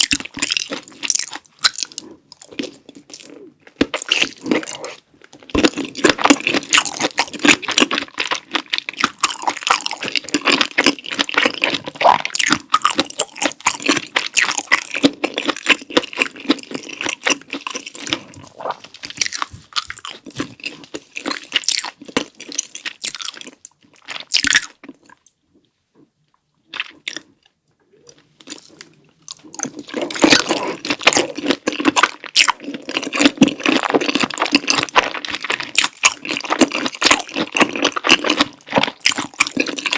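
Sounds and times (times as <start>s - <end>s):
chewing and biting noodles: 0.0s - 25.3s, 26.7s - 39.9s.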